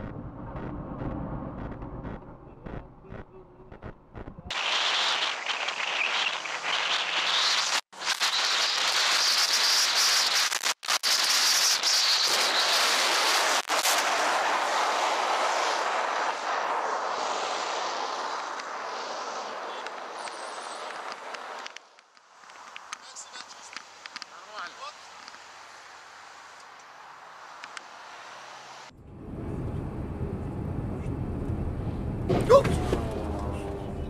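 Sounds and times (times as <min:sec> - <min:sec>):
wind and motorcycle road noise: 0:00.0 - 0:34.0.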